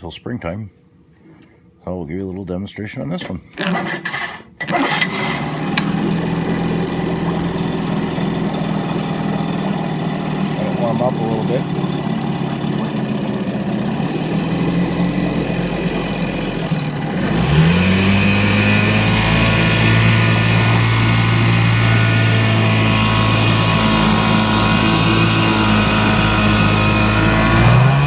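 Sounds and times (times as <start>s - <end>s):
outboard motor running: 3.5s - 28.0s.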